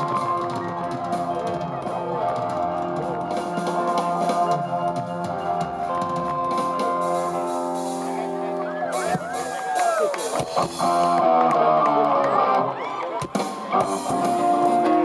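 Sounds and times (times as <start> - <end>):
drum kit beat: 0.0 - 12.0, 13.2 - 15.0
guitar: 0.0 - 15.0
live rock band playing: 0.0 - 15.0.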